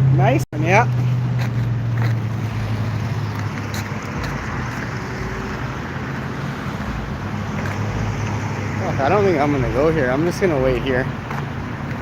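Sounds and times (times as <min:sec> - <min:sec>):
passing cars: 0:00.0 - 0:12.0.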